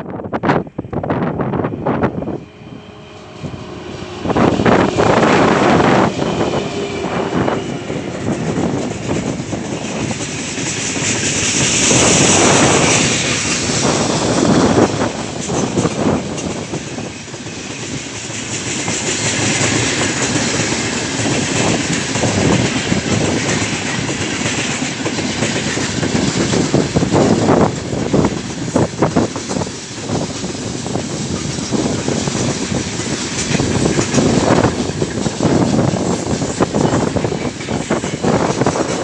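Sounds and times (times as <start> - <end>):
train wheels rumbling on rail: 0.0 - 39.0
wheels clattering over rail joints: 4.5 - 39.0.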